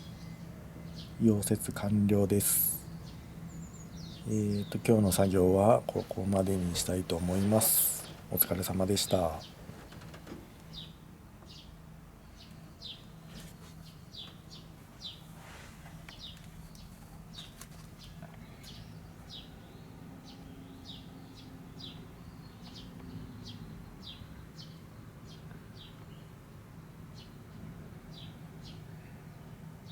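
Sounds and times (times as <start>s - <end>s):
small bird chirping: 0.0s - 9.6s, 10.7s - 15.3s, 16.1s - 26.4s
faint low hum: 0.0s - 29.9s.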